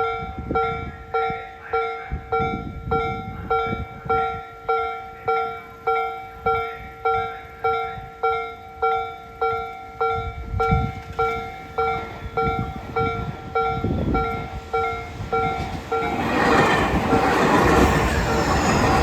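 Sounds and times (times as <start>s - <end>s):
low rumble of approaching train: 0.0s - 19.0s.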